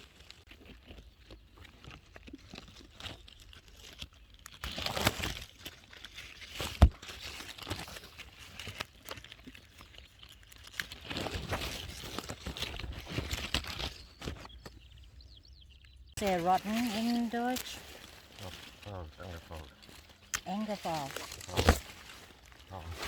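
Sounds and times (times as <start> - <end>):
leaves and straw rustling: 0.0 - 23.0.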